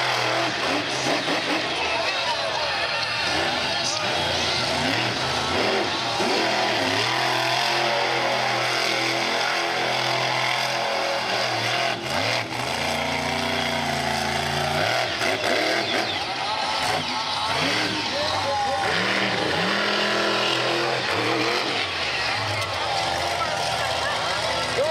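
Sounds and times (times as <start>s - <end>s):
truck engine revving: 0.0s - 24.9s.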